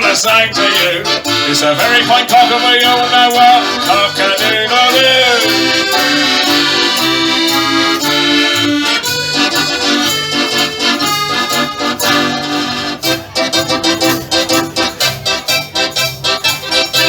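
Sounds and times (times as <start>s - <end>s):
accordion: 0.0s - 17.0s
bouncing bass line: 0.0s - 17.0s.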